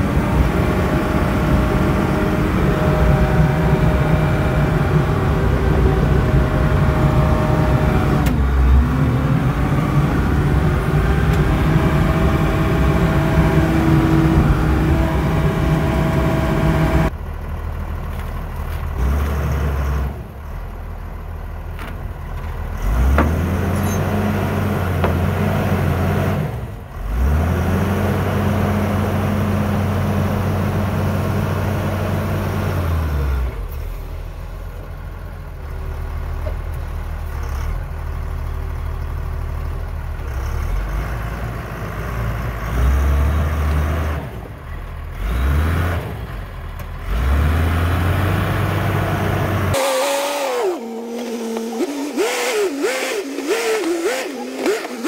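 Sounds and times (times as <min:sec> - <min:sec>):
dozer diesel engine working: 0:00.0 - 0:55.0.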